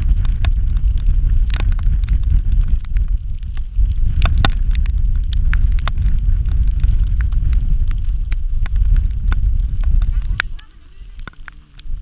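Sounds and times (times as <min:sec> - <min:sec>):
sharp clicks and ticks: 0:00.0 - 0:12.0
wind buffeting microphone: 0:00.0 - 0:12.0.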